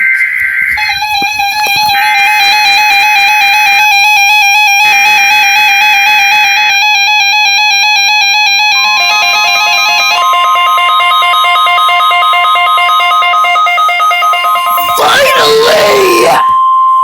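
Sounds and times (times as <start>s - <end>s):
steady alarm tone: 0.0s - 17.0s
two-note keyboard music: 0.8s - 15.0s.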